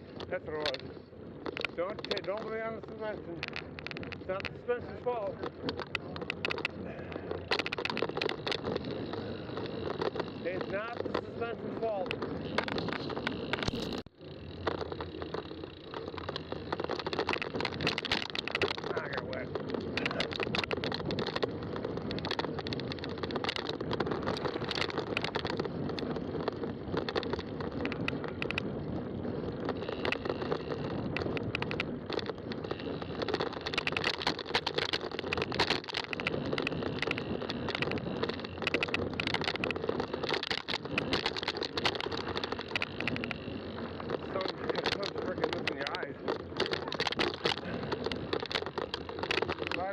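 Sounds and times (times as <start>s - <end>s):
bike clicks and rattles: 0.0s - 49.9s
bike tires rumbling on trail: 0.0s - 49.9s.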